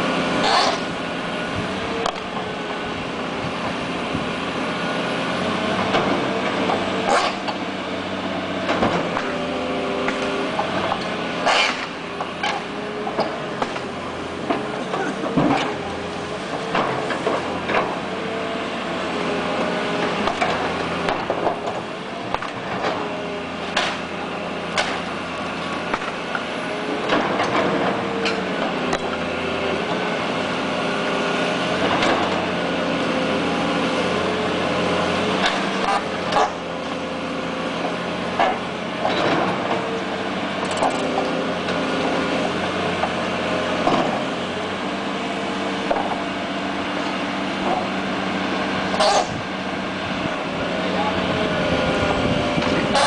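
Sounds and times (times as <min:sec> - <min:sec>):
excavator engine humming: 0:00.0 - 0:53.0.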